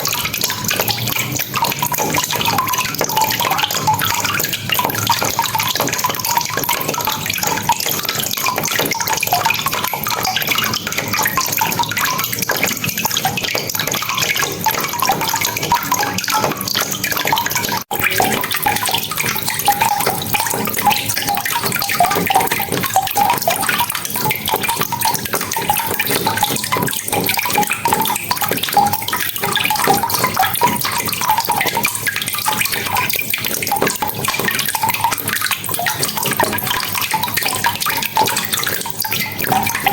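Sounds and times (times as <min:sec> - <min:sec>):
rain pattering: 0:00.0 - 0:39.9
water drips splashing: 0:00.0 - 0:39.9.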